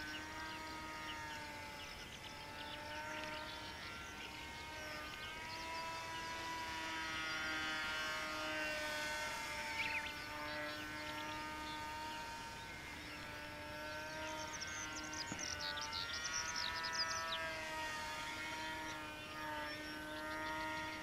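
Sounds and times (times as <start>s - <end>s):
model plane motor whine: 0.0s - 21.0s.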